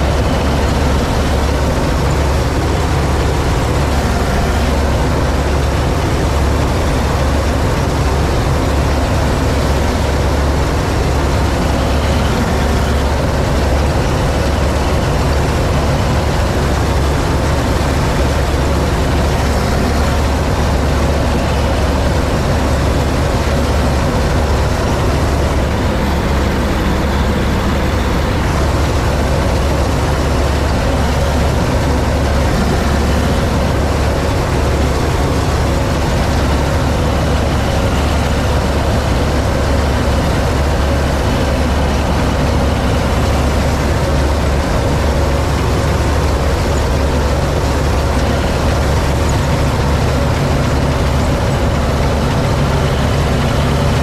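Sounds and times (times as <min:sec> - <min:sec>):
combine harvester engine drone: 0:00.0 - 0:54.0
threshing machinery noise: 0:00.0 - 0:54.0.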